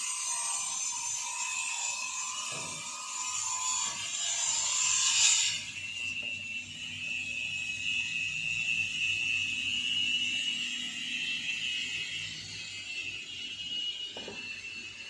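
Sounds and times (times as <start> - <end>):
circular saw blades whining: 0.0 - 15.0.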